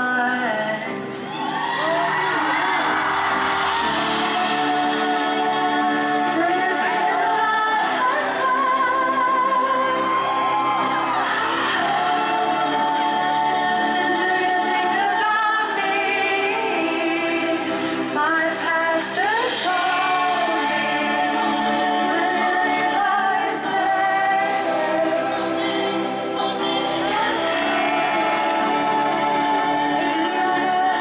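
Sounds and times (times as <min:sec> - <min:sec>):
choir-like backing voices: 0:00.0 - 0:31.0
woman singing lead: 0:00.0 - 0:31.0.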